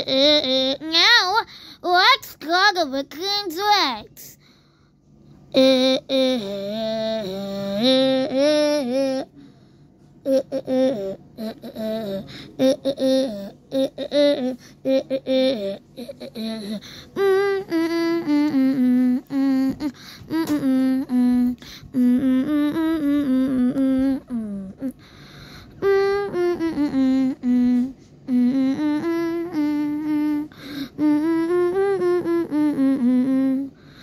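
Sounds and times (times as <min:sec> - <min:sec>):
person humming: 0:00.0 - 0:01.4, 0:05.5 - 0:09.4, 0:10.2 - 0:25.1, 0:25.8 - 0:34.0.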